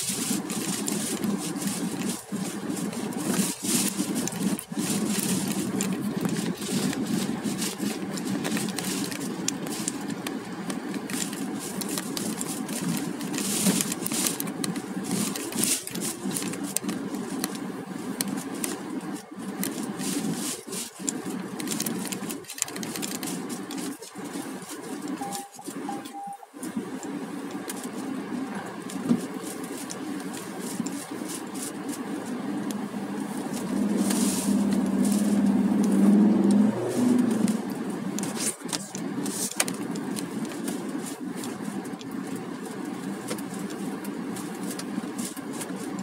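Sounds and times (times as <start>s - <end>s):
car engine and tyre hum: 0.0s - 46.0s
small clicks and rattles: 0.0s - 46.0s.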